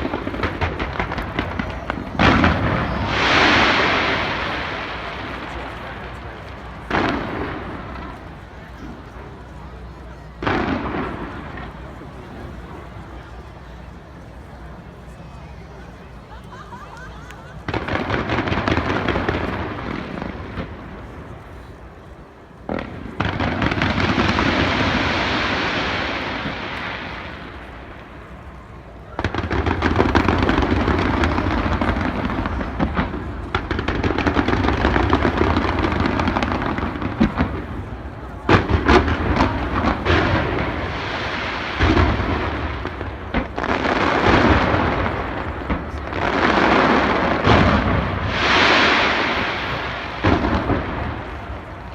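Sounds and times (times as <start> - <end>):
fireworks booming: 0.0 - 51.9
fireworks crackling: 0.0 - 51.9.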